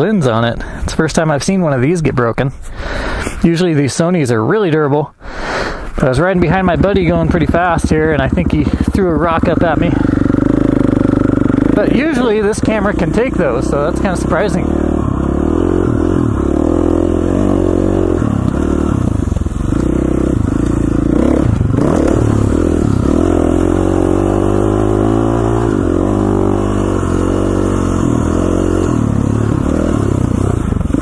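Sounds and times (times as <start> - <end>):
dirt bike engine revving: 6.1 - 31.0.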